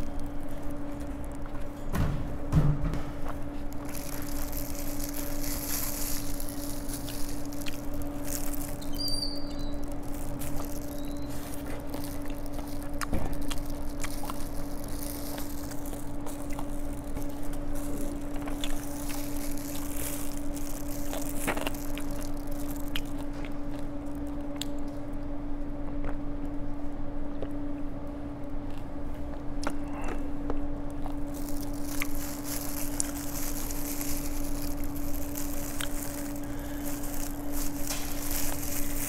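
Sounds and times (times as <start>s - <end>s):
low hum: 0.0s - 26.5s, 29.7s - 39.0s
chewing and biting chicken: 3.5s - 25.1s, 28.6s - 39.0s.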